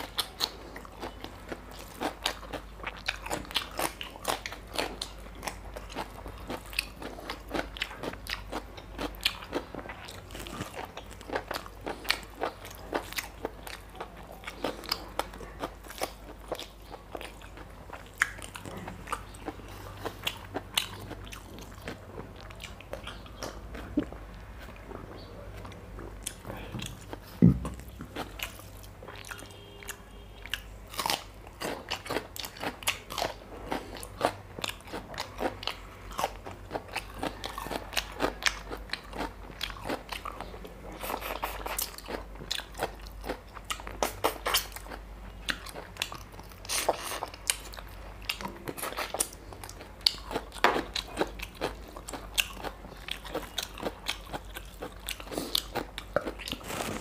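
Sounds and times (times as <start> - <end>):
person chewing with wet clicks: 0.0 - 57.0.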